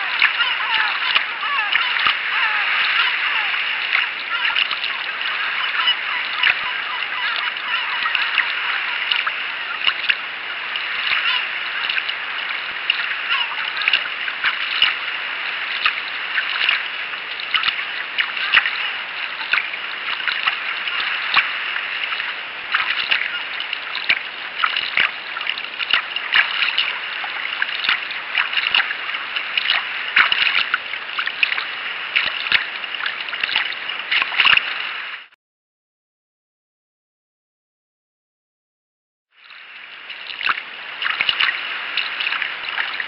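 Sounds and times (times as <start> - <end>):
short sharp splashes: 0.0 - 34.8, 40.1 - 43.0
water rushing along kayak hull: 0.0 - 35.3, 39.6 - 43.0.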